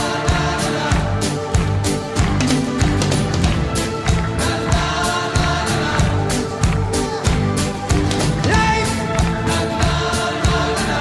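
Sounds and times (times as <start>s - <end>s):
pop music with drum beat: 0.0s - 11.0s.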